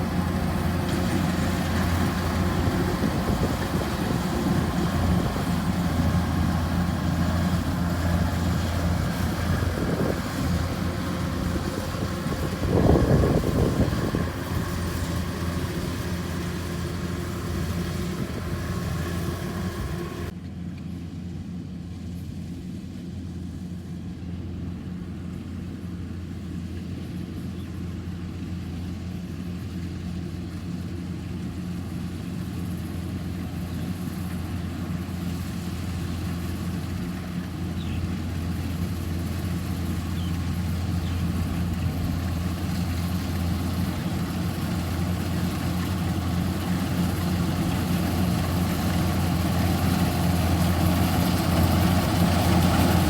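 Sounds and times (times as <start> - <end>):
farm machine engine running: 0.0 - 20.4, 24.5 - 53.0.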